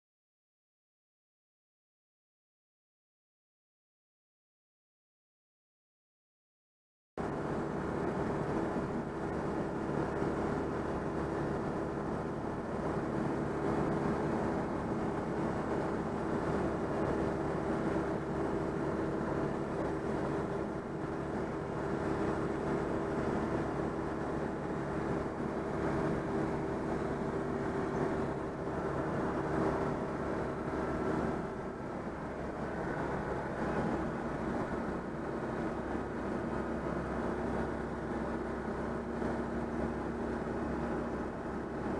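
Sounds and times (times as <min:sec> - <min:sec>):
car engine droning: 0:07.2 - 0:41.9
road and wind noise: 0:07.2 - 0:41.9.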